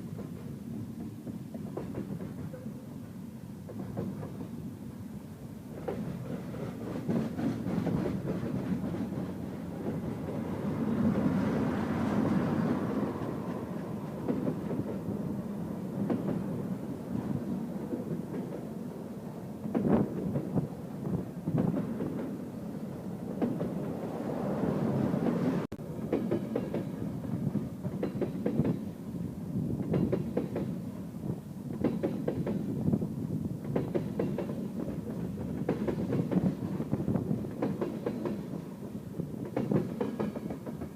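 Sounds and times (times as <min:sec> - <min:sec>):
train cars rumbling past: 0:00.0 - 0:40.9.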